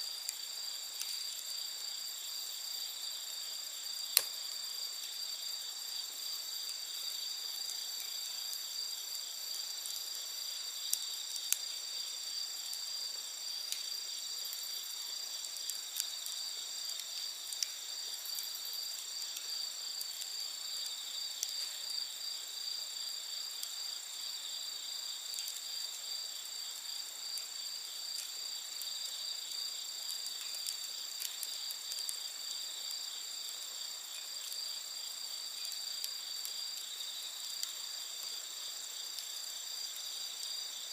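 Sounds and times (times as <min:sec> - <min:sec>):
crickets and night insects: 0:00.0 - 0:40.9
campfire popping: 0:00.1 - 0:40.9.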